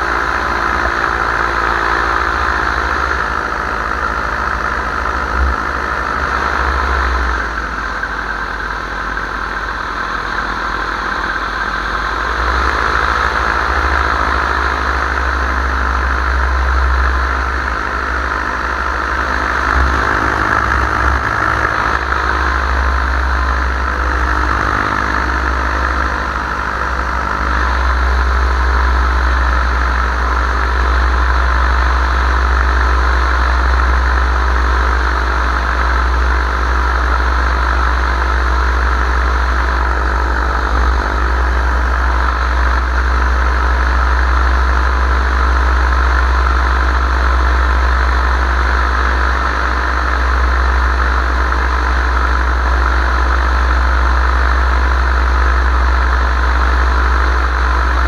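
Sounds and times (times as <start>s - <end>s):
heavy low rumble: 0.0s - 58.0s
paraglider engine and propeller: 0.0s - 58.0s.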